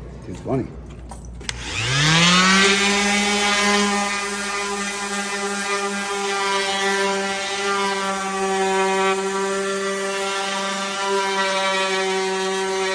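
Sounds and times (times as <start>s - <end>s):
electric sander motor: 1.5s - 12.9s.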